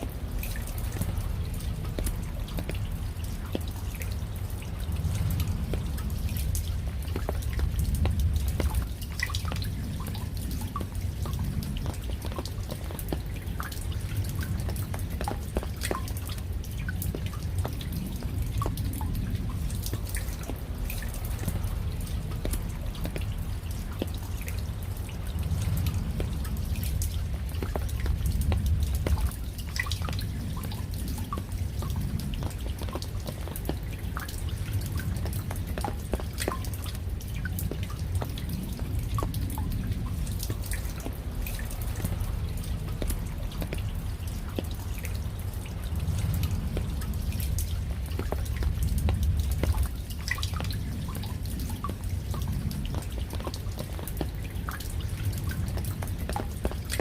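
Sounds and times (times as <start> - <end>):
raindrops dripping: 0.0 - 57.0
steady low rumble: 0.0 - 57.0.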